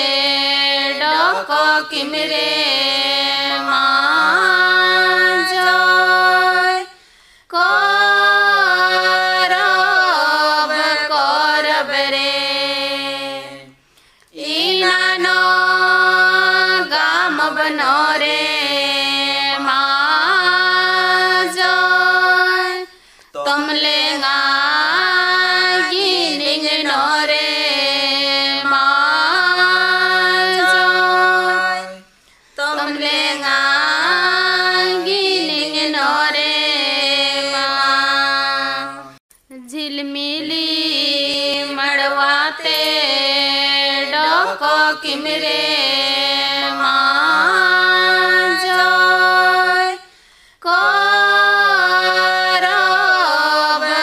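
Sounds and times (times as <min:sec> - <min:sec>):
women singing folk song: 0:00.0 - 0:54.0.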